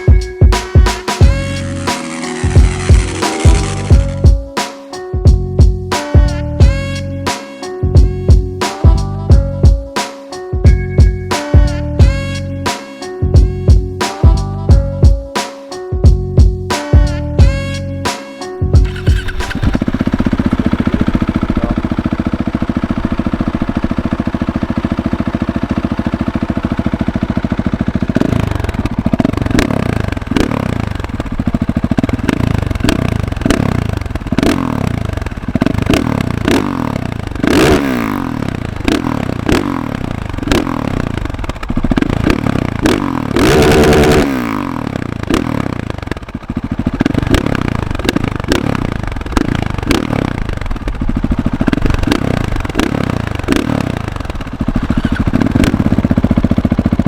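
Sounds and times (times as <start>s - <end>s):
motorcycle engine idling and revving: 0.0s - 15.4s, 16.0s - 57.0s.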